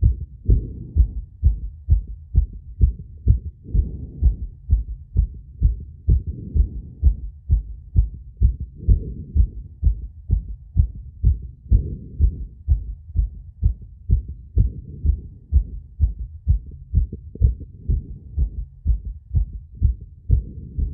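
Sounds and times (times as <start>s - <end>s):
heartbeat thumps: 0.0s - 20.9s.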